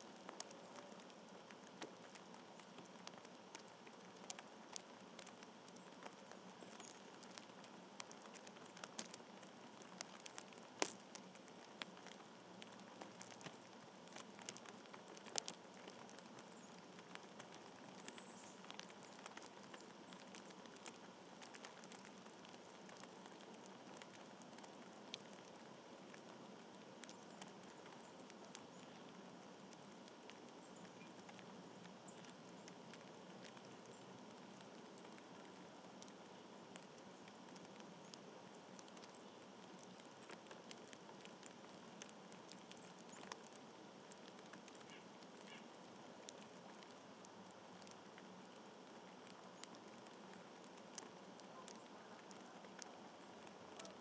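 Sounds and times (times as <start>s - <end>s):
low hiss: 0.0s - 54.0s
small ticks and taps: 0.0s - 54.0s.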